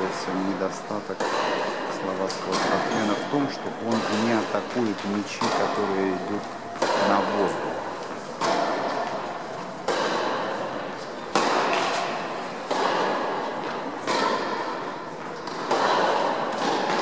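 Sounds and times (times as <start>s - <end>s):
tennis balls struck echoing: 0.0s - 17.0s.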